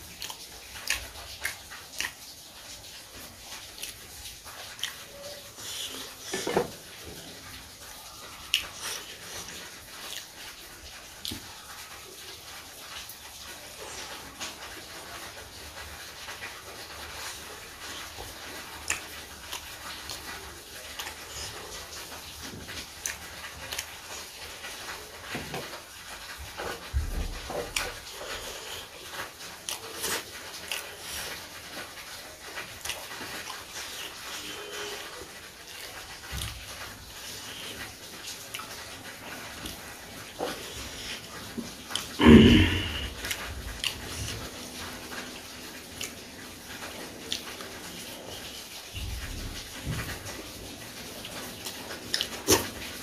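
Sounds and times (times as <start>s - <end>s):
person chewing with wet clicks: 0.0s - 53.0s.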